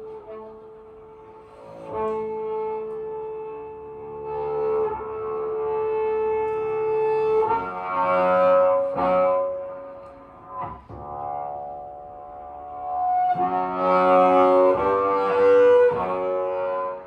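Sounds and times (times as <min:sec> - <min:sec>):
bass clarinet: 0:00.0 - 0:17.0
double bass: 0:00.0 - 0:17.0.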